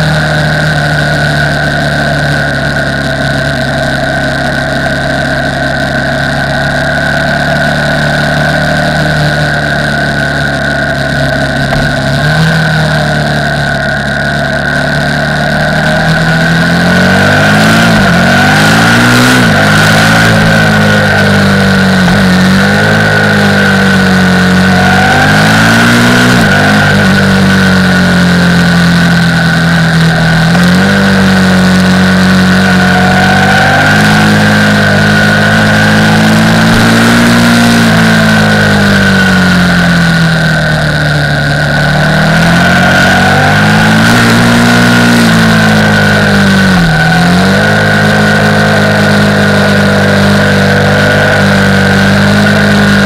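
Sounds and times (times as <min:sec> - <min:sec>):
motorcycle engine revving: 0:00.0 - 0:53.0
steady high whine: 0:00.0 - 0:53.0.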